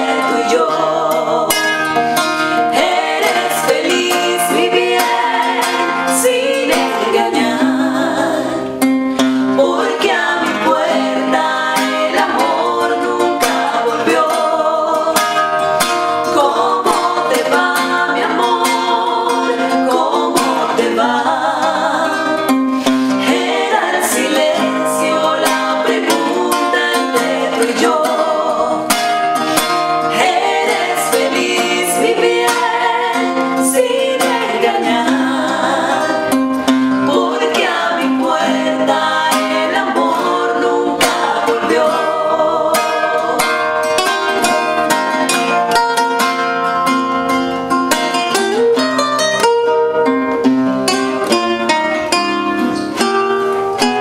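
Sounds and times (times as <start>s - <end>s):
women singing: 0.0s - 46.4s
acoustic guitars playing ballad: 0.0s - 54.0s.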